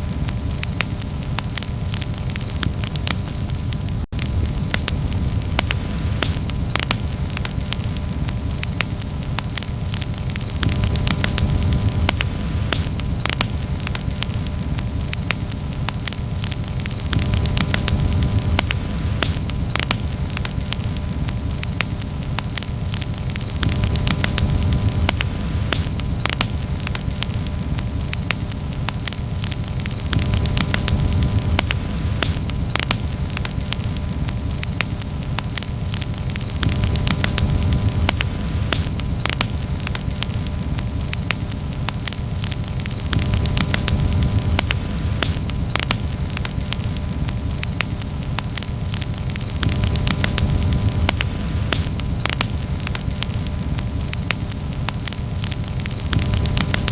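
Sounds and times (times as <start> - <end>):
campfire crackling: 0.0 - 56.9
low rumble of burning: 0.0 - 56.9
sharp pops and snaps: 0.0 - 56.9.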